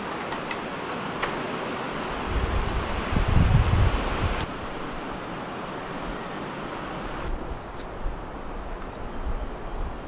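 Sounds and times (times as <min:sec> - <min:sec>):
outdoor wind rushing: 0:00.0 - 0:10.0.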